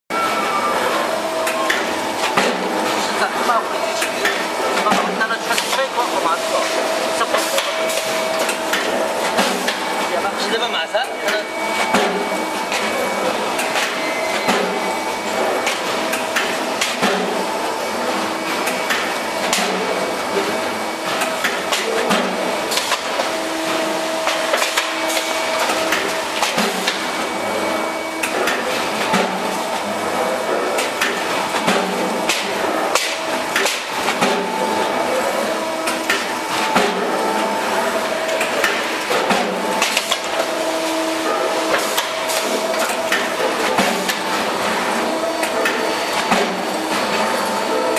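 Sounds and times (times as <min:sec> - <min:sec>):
press machine humming: 0:00.1 - 0:47.9.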